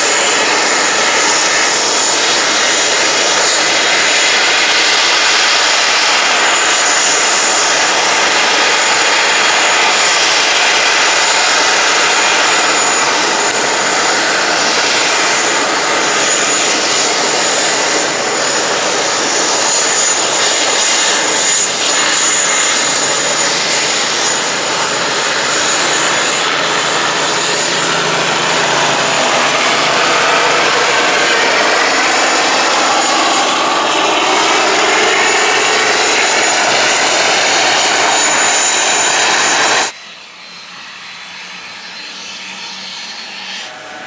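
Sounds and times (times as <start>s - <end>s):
helicopter rotor and engine: 0.0s - 44.0s
thin high whine: 0.0s - 44.0s.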